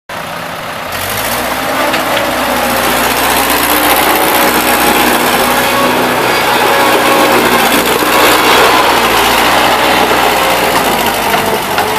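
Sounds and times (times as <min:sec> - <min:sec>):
skid steer engine running: 0:00.1 - 0:11.9.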